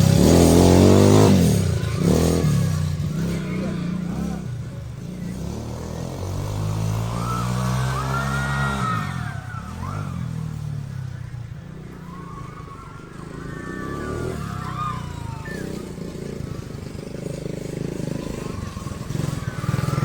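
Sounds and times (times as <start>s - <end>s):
quad bike engine revving: 0.0s - 20.0s.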